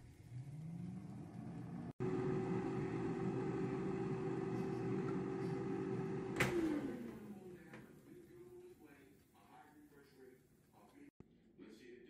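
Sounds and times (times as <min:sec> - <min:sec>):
air fryer fan humming: 0:00.0 - 0:10.5.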